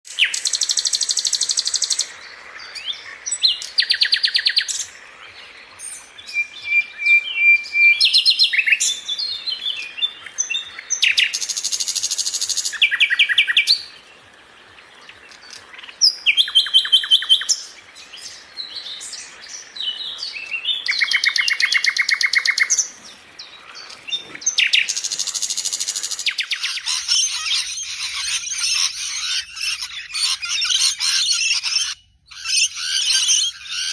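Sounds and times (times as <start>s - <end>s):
songbirds trilling and chirping: 0.1s - 33.9s.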